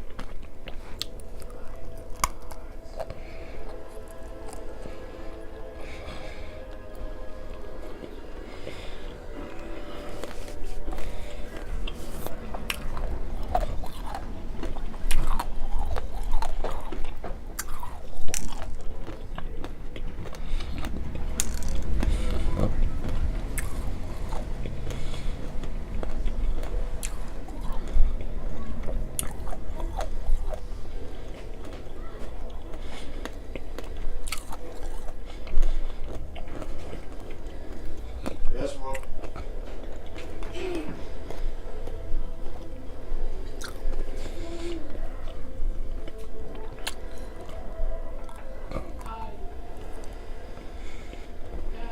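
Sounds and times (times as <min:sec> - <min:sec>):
chewing crunchy candy: 0:00.0 - 0:51.6.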